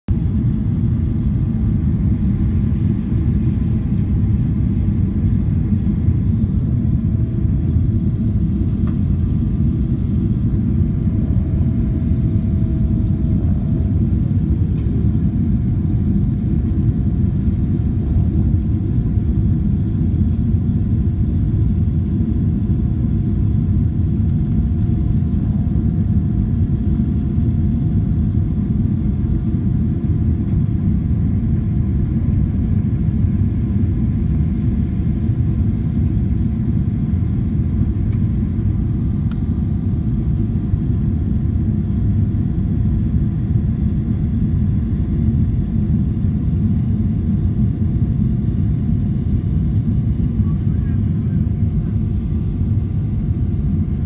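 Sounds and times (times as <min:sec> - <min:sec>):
airliner cabin rumble: 0:00.1 - 0:54.0.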